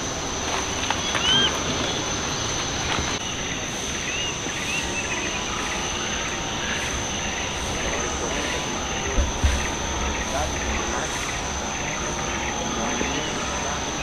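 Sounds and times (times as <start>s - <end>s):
background hiss: 0.0s - 14.0s
high-pitched insect drone: 0.0s - 14.0s.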